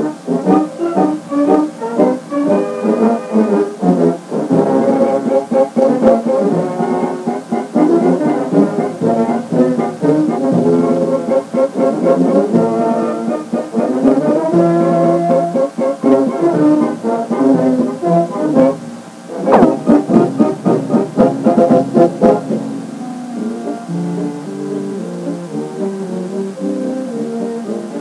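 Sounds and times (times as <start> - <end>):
wind band playing brass music: 0.0 - 28.0.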